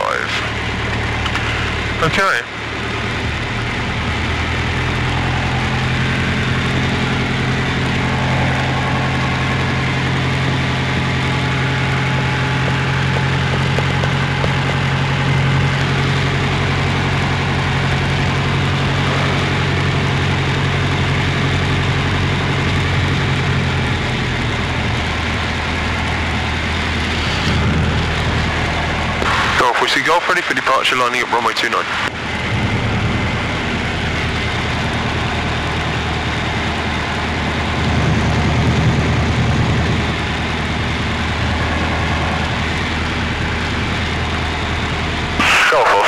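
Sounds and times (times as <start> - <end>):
muffled propeller engine drone: 0.0 - 46.0.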